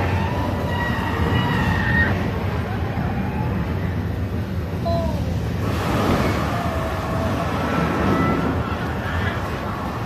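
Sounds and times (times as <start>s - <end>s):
loud steady rumbling: 0.0s - 10.0s.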